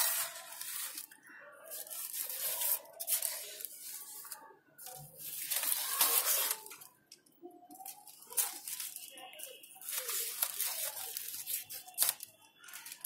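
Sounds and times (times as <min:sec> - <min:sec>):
paper kites rustling: 0:00.0 - 0:07.0, 0:07.7 - 0:13.0.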